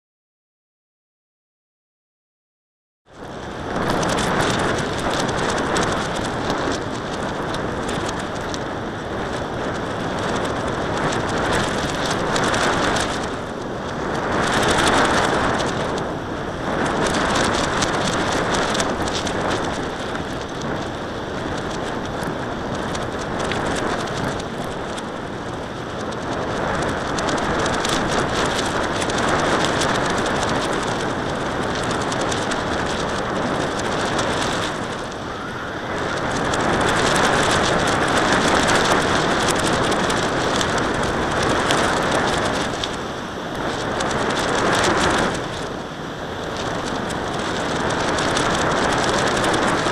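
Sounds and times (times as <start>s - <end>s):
wind rushing over microphone: 3.1s - 49.9s.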